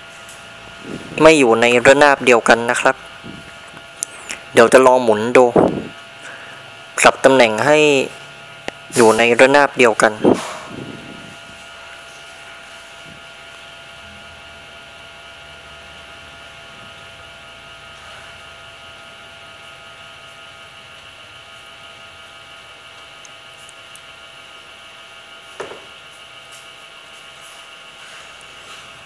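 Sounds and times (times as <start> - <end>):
electrical hum and hiss: 0.0 - 29.0.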